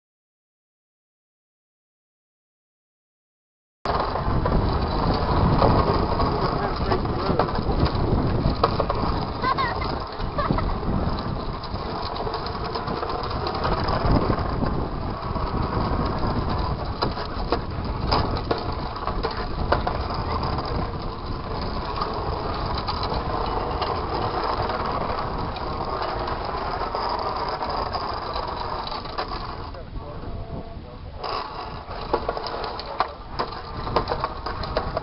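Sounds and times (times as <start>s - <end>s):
wheels rumbling on asphalt: 3.9s - 35.0s.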